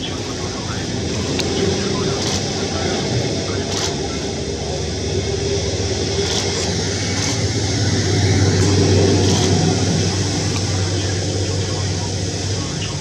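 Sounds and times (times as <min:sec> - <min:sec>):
distant jet engines rumbling: 0:00.0 - 0:13.0.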